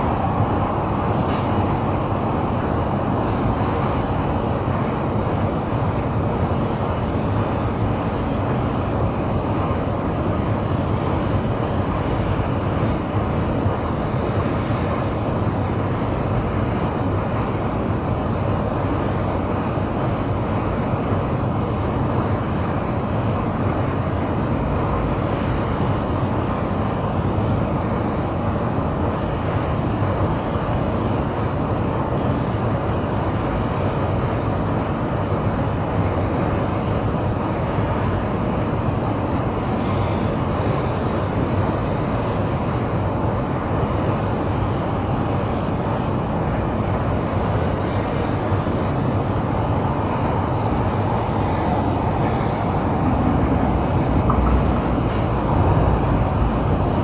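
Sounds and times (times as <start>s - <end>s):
low hum of metro station: 0.0s - 57.0s.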